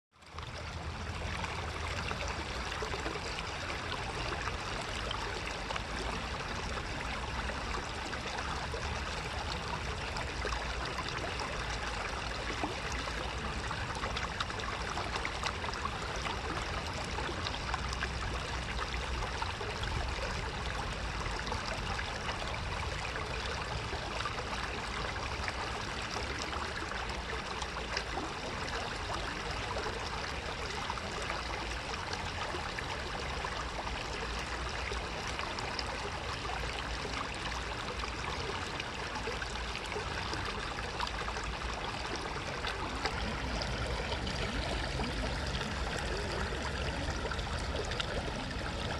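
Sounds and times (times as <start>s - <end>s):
river babbling over stones: 0.2s - 48.9s.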